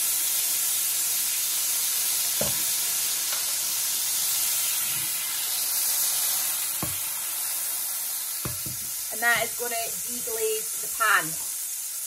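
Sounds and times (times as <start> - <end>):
vinegar sizzling in hot pan: 0.0 - 12.0.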